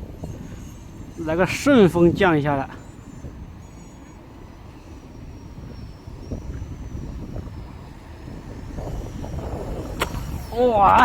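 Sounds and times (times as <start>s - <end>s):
model airplane motor whine: 0.0s - 11.0s
wind buffeting microphone: 0.0s - 11.0s.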